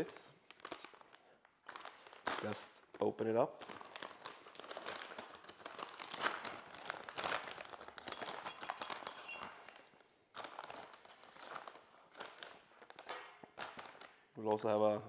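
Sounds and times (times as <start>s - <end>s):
plastic bag rustling and crinkling: 0.0s - 14.6s.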